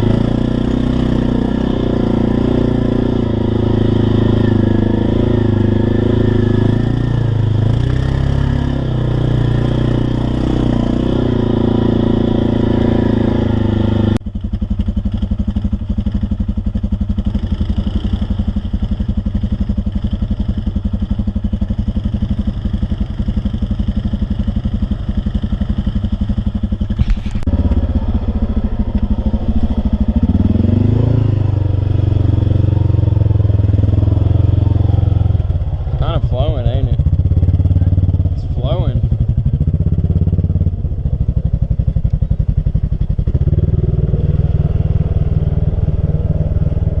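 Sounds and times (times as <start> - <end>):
engine revving: 0.0 - 14.2, 14.9 - 47.0
truck engines running hard: 0.0 - 14.2, 17.4 - 47.0.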